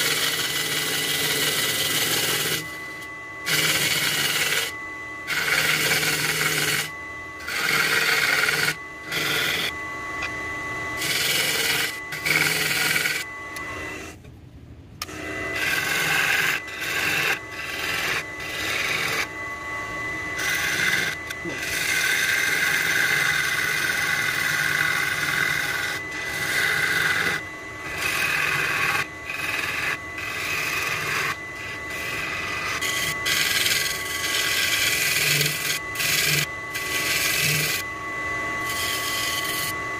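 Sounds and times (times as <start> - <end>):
lathe tool scraping wood: 0.0 - 14.2, 15.0 - 39.9
lathe high whine: 0.0 - 14.3, 15.0 - 39.9.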